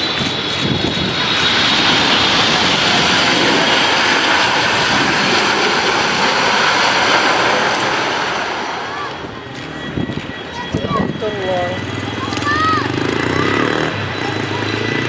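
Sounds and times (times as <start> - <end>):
airliner engines passing: 0.0 - 15.0
high engine whine: 0.0 - 15.0.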